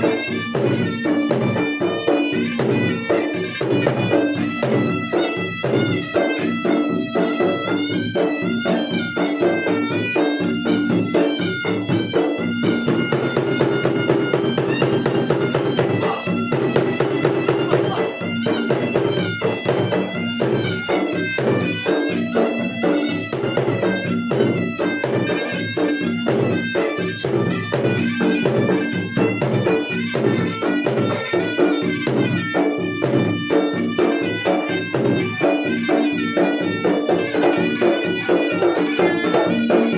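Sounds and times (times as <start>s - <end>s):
fast drum beats: 0.0s - 39.9s
shrill reed pipe melody: 0.0s - 39.9s.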